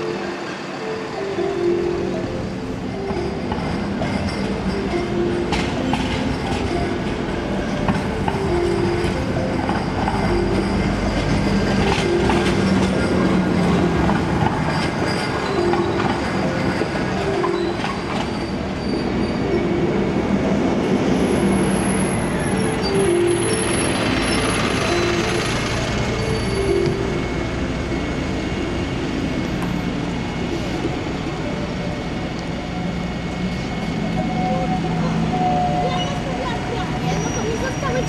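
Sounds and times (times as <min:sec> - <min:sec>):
steel wheels running on rail: 0:00.0 - 0:38.0
tram wheel squeal: 0:00.0 - 0:38.0.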